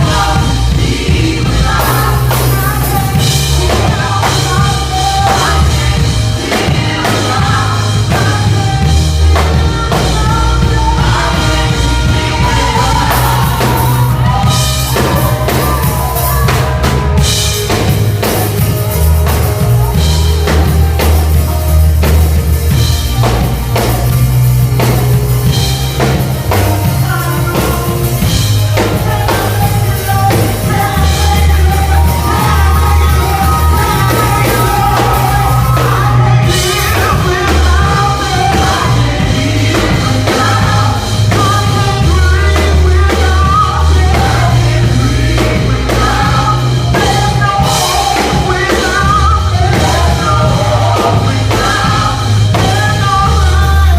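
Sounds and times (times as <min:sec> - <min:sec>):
bass line: 0:00.0 - 0:53.9
drum kit beating: 0:00.0 - 0:53.9
people singing: 0:00.0 - 0:53.9.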